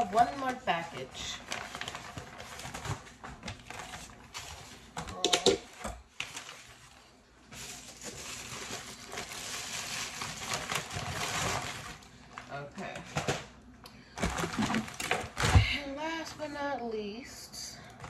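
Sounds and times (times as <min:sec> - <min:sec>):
paper packaging rustling: 0:00.0 - 0:13.5, 0:14.2 - 0:15.6.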